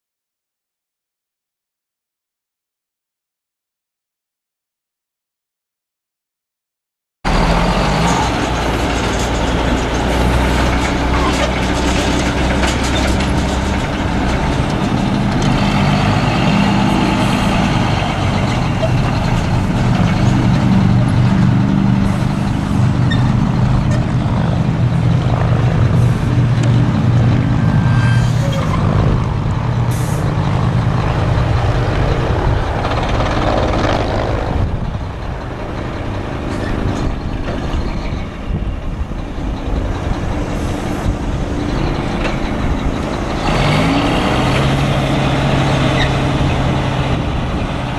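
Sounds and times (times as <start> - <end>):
truck diesel engine driving by: 7.3 - 47.9.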